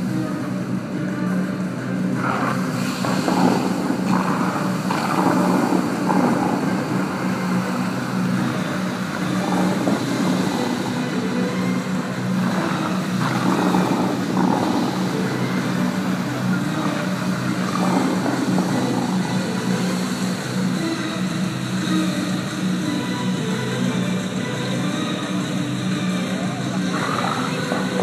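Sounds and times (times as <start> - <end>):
fountain water rushing: 0.0 - 28.0
low steady hum: 0.0 - 28.0.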